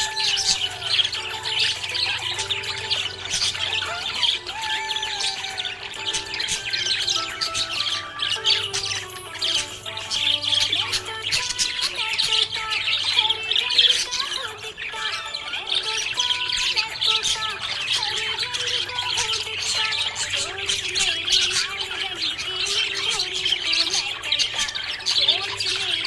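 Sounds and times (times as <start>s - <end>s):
budgerigars chirping and chattering: 0.0s - 26.0s.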